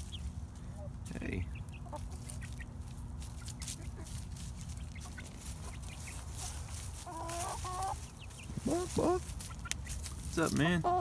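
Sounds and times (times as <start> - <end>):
chicken calls: 0.0 - 11.0
chickens scratching: 0.0 - 11.0.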